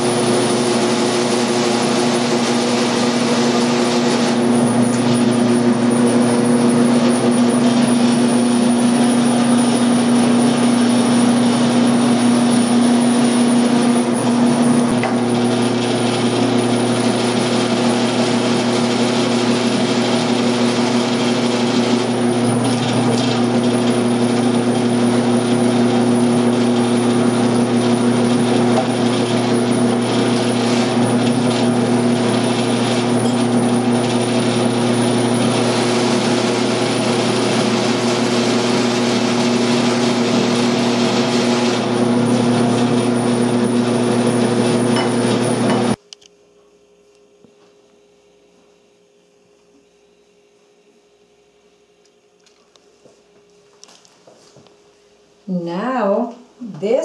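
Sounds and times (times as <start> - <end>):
meat grinder motor humming: 0.0 - 46.0.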